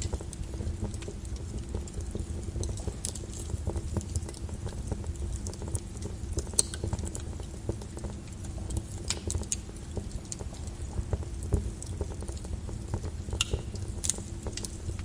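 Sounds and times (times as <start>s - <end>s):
lava crackling: 0.0s - 15.0s.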